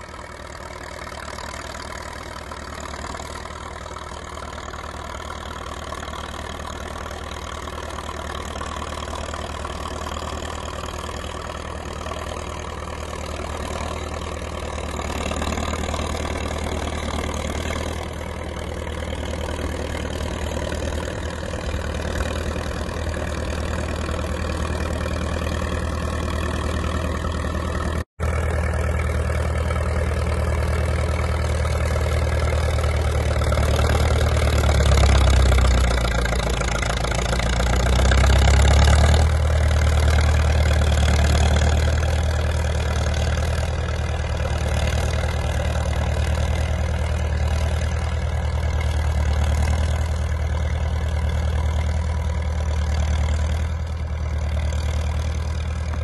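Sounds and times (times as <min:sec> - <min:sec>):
diesel engine working under load: 0:00.0 - 0:56.0.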